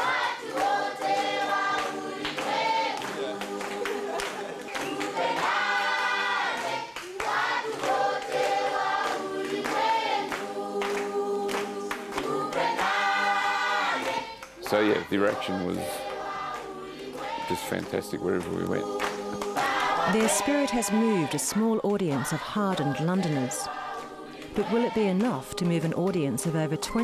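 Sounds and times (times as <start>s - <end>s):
children's choir singing: 0.0s - 27.0s
hand clapping: 0.0s - 27.0s.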